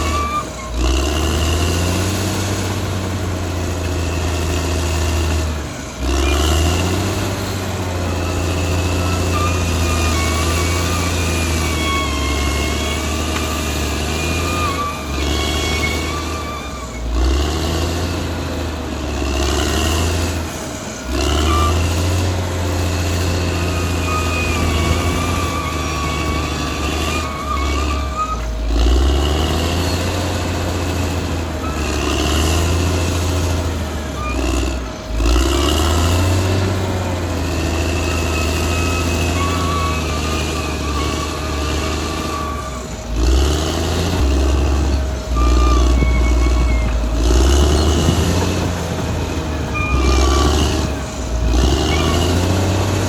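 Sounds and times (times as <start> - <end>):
wavering high squeals: 0.0 - 1.8, 5.6 - 18.2, 20.2 - 53.0
bulldozer engine under load: 0.0 - 53.0.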